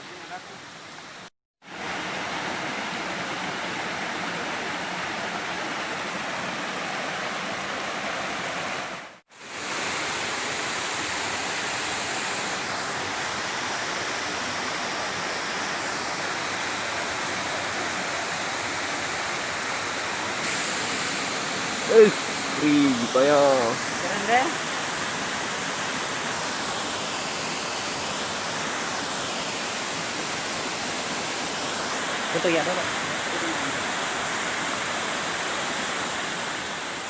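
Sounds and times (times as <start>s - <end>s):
waterfall pouring and splashing: 0.0s - 37.0s.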